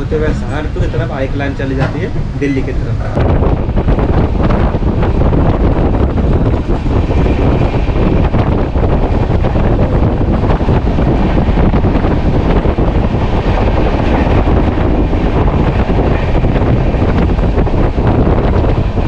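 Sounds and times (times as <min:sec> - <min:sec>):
train coach rumbling on rails: 0:00.0 - 0:19.0
wind buffeting microphone: 0:00.0 - 0:19.0.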